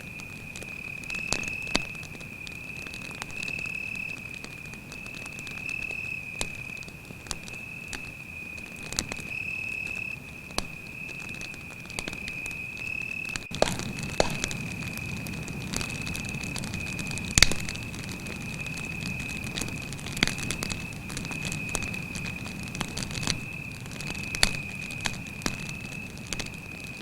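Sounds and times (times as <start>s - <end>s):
campfire crackling and popping: 0.0s - 27.0s
cricket trilling: 0.0s - 27.0s.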